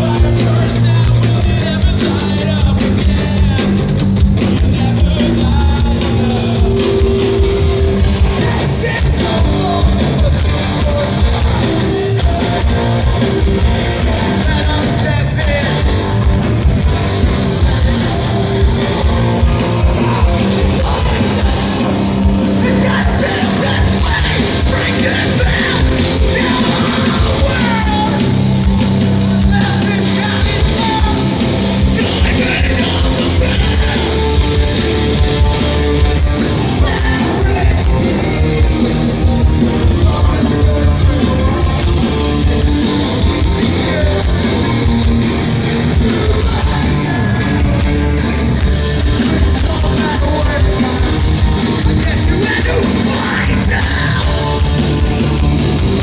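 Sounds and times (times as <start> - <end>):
distorted guitars: 0.0 - 56.0
drums: 0.0 - 56.0
shouted vocals: 8.0 - 56.0.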